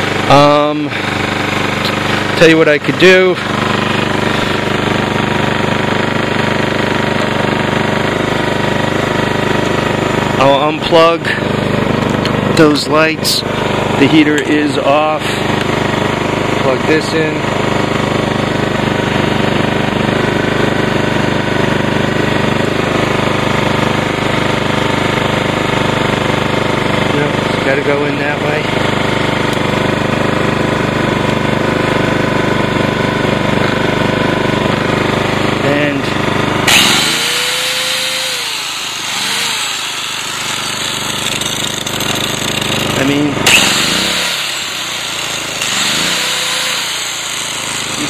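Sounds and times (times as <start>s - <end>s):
generator engine running: 0.0s - 48.0s.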